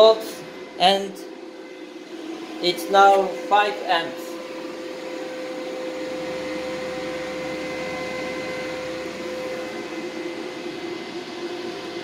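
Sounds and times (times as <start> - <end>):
machine hum with constant tone: 0.0 - 12.0.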